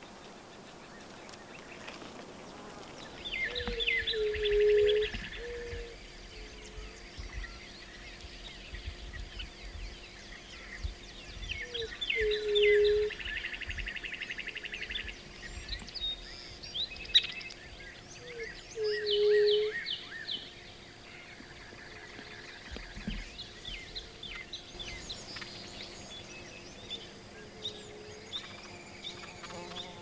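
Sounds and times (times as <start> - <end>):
birds chirping and trilling: 0.0 - 30.0.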